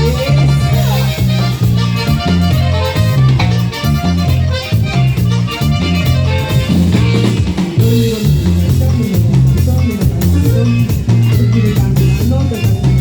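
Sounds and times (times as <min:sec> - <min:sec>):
cumbia band playing: 0:00.0 - 0:13.0
rhythmic bass line: 0:00.0 - 0:13.0.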